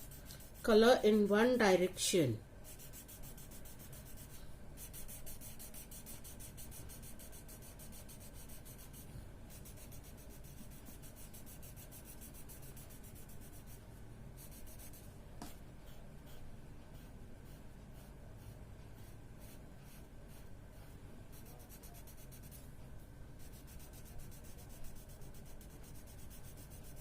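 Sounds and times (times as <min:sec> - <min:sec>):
crayon scratching on paper: 0:00.0 - 0:01.0, 0:02.7 - 0:13.8, 0:14.4 - 0:15.1, 0:15.8 - 0:22.6, 0:23.4 - 0:27.0.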